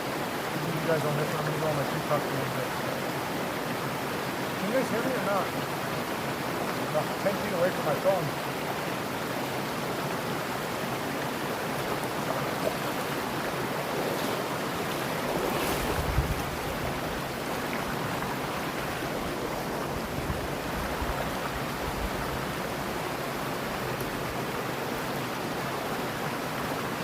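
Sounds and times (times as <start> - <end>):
mountain stream flowing over rocks: 0.0 - 27.0.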